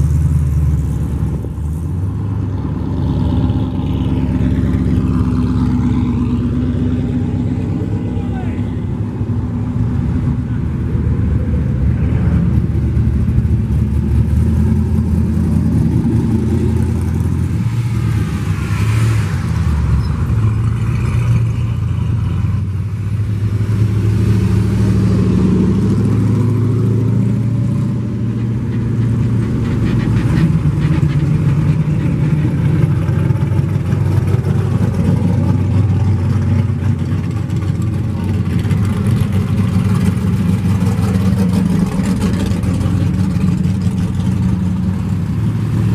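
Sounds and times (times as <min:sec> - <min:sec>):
muscle car engines passing: 0:00.0 - 0:45.9.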